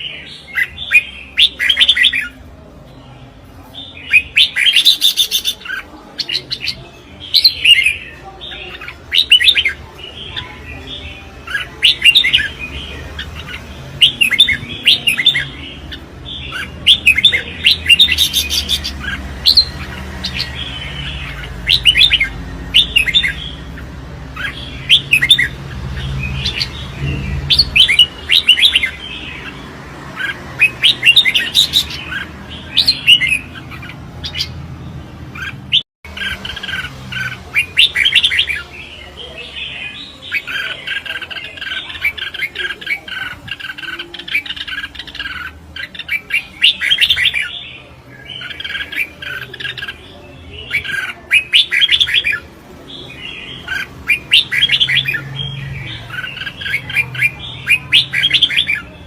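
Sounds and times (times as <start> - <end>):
bird warbling song: 3.6 - 59.0.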